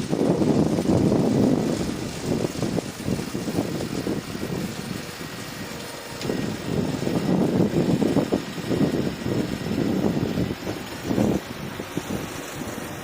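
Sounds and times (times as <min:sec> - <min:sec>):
bulldozer diesel engine: 0:00.0 - 0:13.0.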